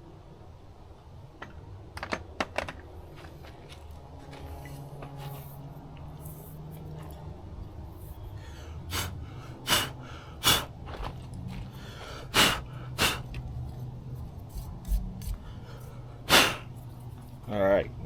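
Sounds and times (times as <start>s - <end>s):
steady low hum: 2.9s - 18.0s.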